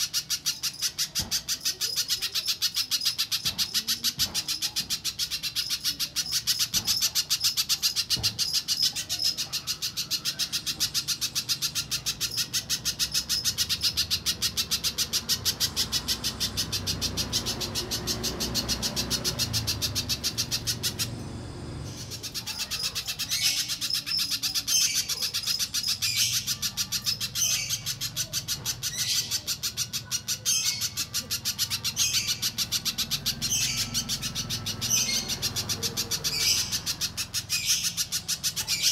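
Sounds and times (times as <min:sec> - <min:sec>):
high repeated bird call notes: 0:00.0 - 0:38.9.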